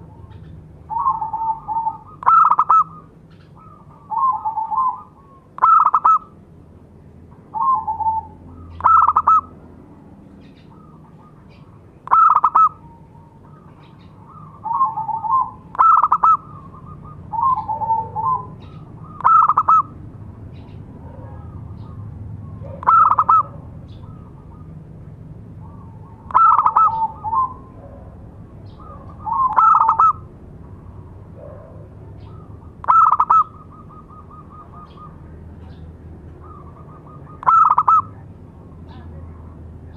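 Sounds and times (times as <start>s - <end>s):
dove cooing: 0.0s - 6.4s, 7.5s - 9.6s, 10.5s - 20.0s, 21.0s - 38.3s.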